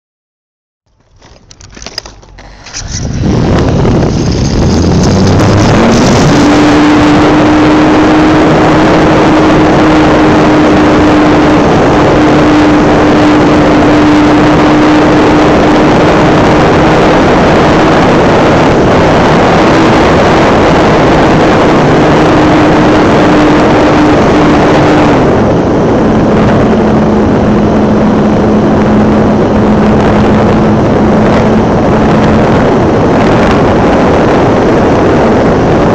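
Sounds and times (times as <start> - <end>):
model airplane motor droning: 1.0 - 32.8
wind rushing over microphone: 1.0 - 35.9.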